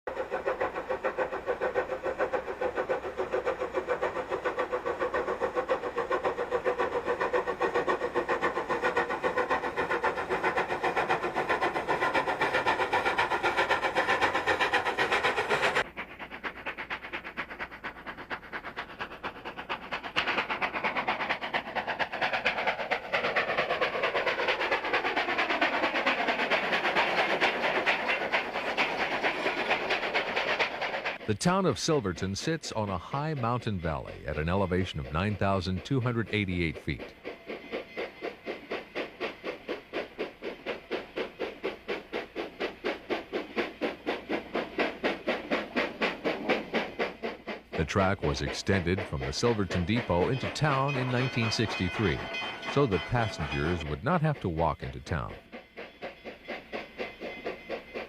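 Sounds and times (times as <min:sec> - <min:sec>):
steam train running: 0:00.0 - 0:58.0.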